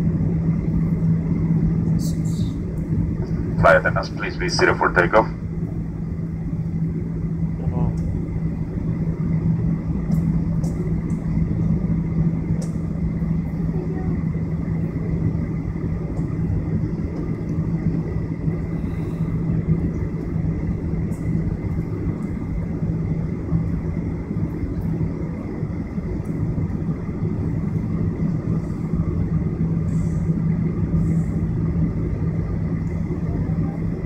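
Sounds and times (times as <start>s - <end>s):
jet engine drone: 0.0s - 34.0s.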